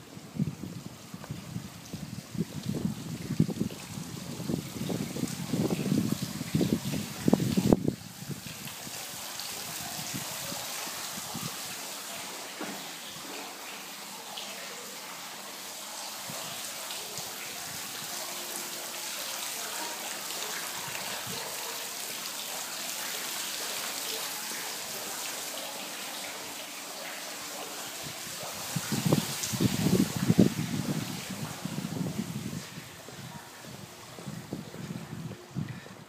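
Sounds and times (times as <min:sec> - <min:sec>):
water fountain splashing: 0:00.0 - 0:36.0.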